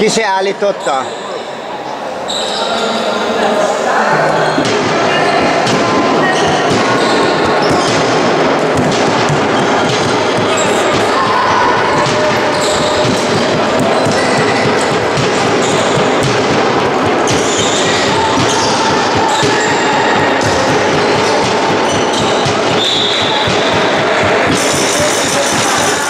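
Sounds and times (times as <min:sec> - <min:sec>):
crowd voices in hall: 0:00.0 - 0:26.0
ball bouncing on wooden floor: 0:04.6 - 0:26.0.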